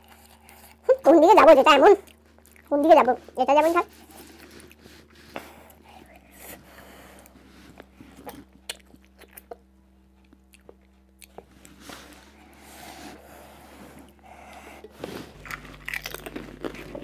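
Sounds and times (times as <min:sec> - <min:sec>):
crunchy food being chewed: 0:00.0 - 0:17.0.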